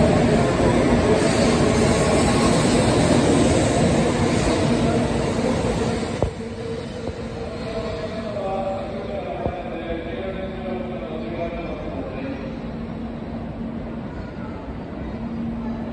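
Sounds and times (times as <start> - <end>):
train passing: 0.0 - 15.9.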